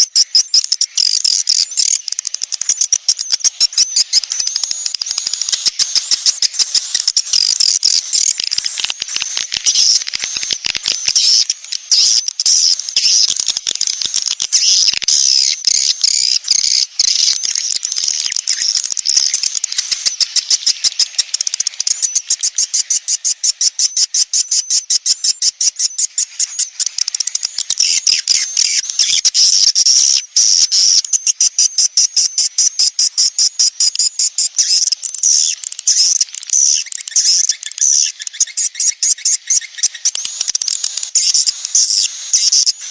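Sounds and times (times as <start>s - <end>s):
swiftlets twittering: 0.0s - 40.3s.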